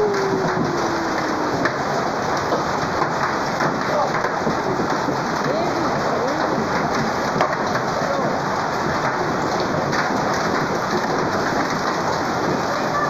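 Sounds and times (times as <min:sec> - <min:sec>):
hail and rain pelting ground: 0:00.0 - 0:13.0.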